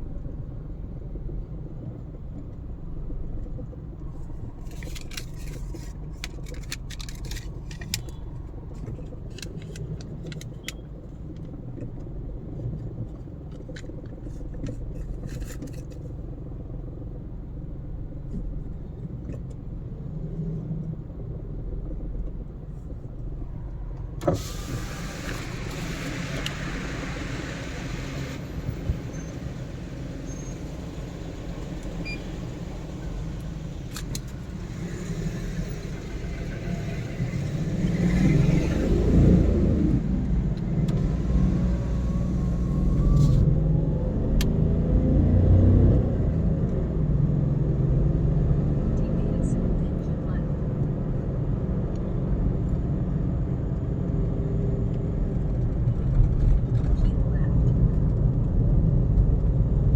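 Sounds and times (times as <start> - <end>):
car road noise rumble: 0.0 - 59.9.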